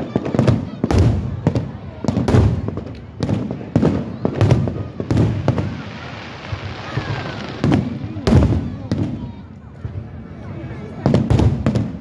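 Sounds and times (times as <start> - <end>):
fireworks shells booming: 0.0 - 10.2, 10.9 - 12.0
fireworks crackling: 0.0 - 12.0.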